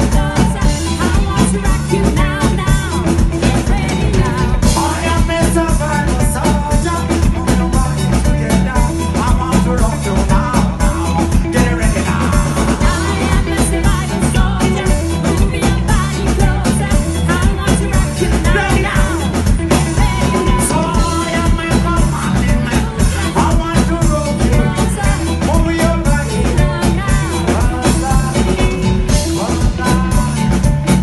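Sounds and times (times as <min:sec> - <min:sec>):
person singing: 0:00.0 - 0:31.0
reggae band playing: 0:00.0 - 0:31.0.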